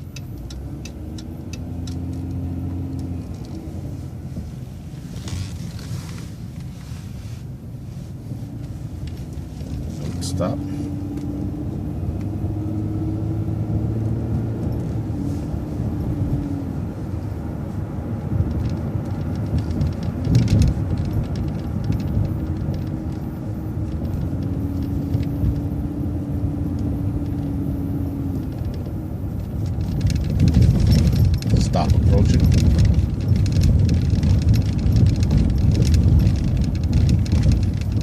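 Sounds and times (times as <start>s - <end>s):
bus engine rumble: 0.0s - 38.0s
bus whine: 0.0s - 38.0s.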